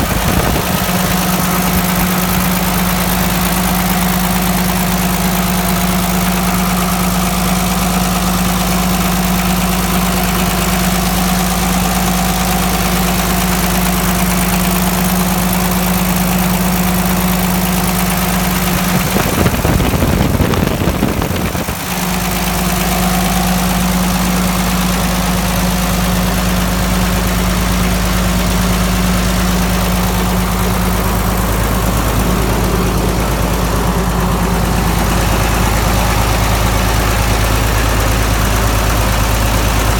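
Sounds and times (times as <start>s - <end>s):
loud rough noise: 0.0s - 39.9s
tractor engine idling: 0.0s - 39.9s.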